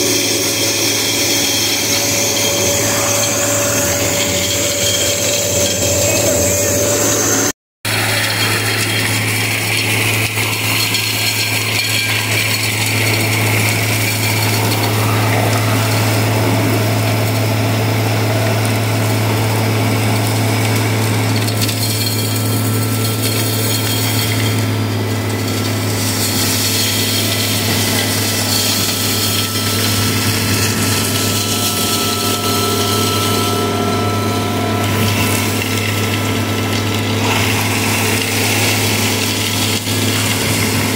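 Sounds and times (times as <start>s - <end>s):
engine and blower drone: 0.0s - 40.9s.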